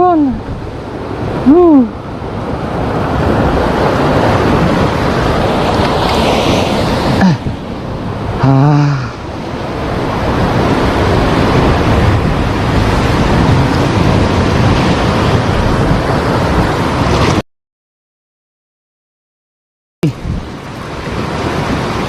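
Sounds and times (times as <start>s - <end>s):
surf breaking on shore: 0.3s - 17.4s, 20.0s - 22.0s.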